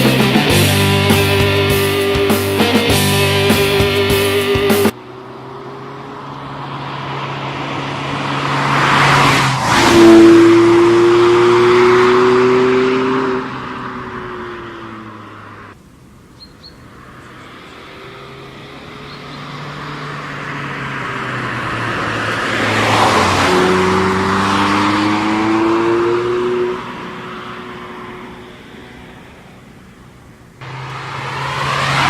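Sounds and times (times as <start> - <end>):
sports car engine revving: 0.0 - 15.8, 17.1 - 32.0.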